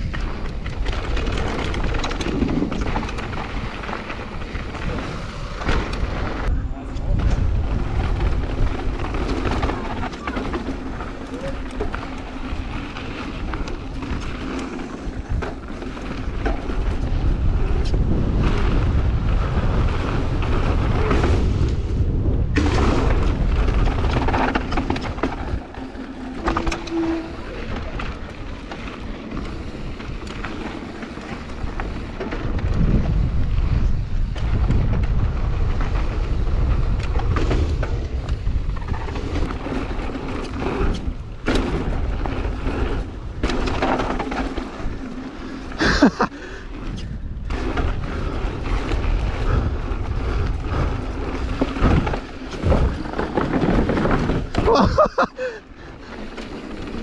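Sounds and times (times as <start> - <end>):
wind on camera microphone: 0.0 - 25.8, 31.3 - 43.9, 45.8 - 55.0
bike rattling: 0.0 - 57.0
tyres on rough gravel: 0.0 - 57.0.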